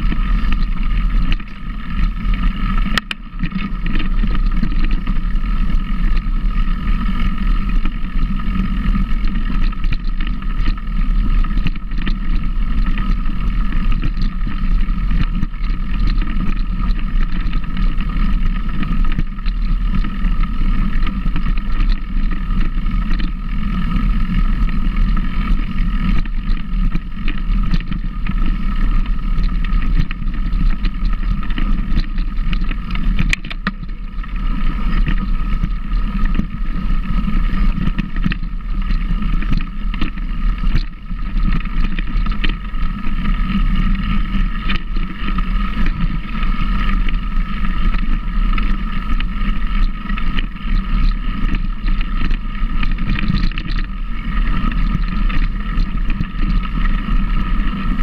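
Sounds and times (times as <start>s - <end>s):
motor running steadily: 0.0s - 58.0s
wind rumbling on microphone: 0.0s - 58.0s.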